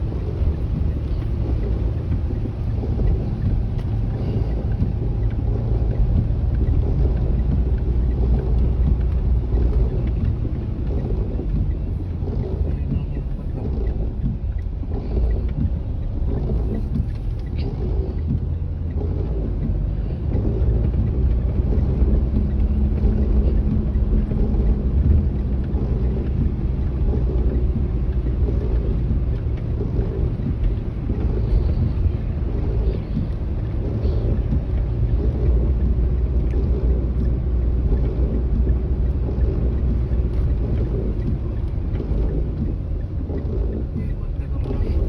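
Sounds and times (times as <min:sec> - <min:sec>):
car engine rumble: 0:00.0 - 0:45.0
road noise: 0:00.0 - 0:45.0
wind buffeting microphone: 0:00.0 - 0:45.0.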